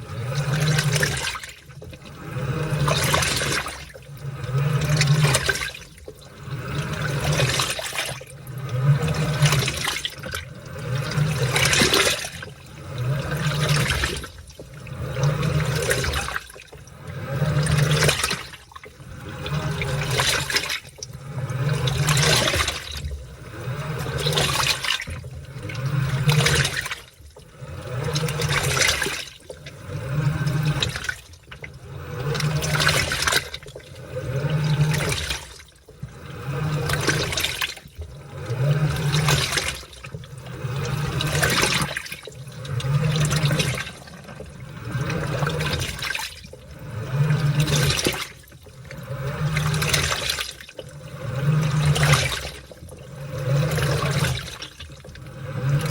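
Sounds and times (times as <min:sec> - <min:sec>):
washing machine churning water: 0:00.0 - 0:55.9.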